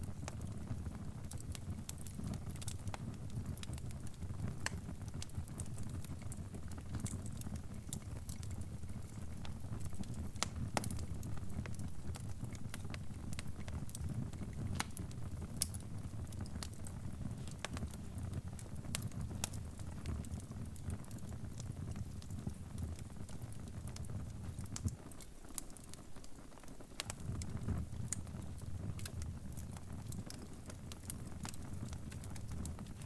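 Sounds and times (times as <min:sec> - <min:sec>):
fire popping and snapping: 0:00.0 - 0:33.0
wood fire crackling: 0:00.0 - 0:33.0.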